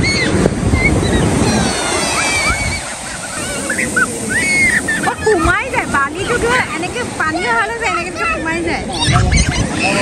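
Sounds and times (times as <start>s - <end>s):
children calling out: 0.0s - 10.0s
small waves breaking on beach: 0.0s - 10.0s.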